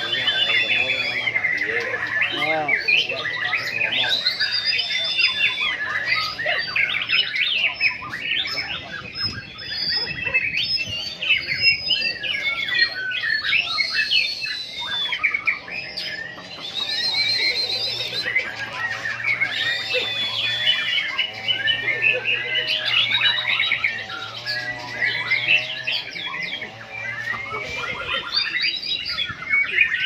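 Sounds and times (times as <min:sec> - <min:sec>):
birds singing and chattering: 0:00.0 - 0:30.0.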